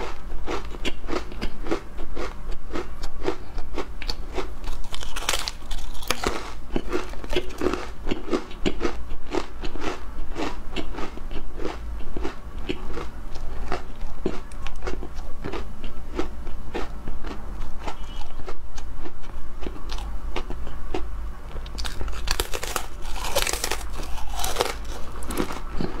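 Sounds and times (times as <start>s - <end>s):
crisp crackers crunching: 0.5s - 21.0s, 21.6s - 26.0s.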